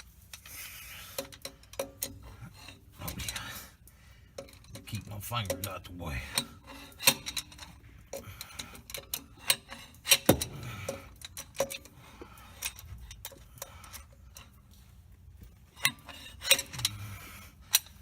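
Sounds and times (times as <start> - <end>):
metal tools clinking and tapping: 1.2 - 3.5, 4.3 - 14.6, 15.4 - 18.0.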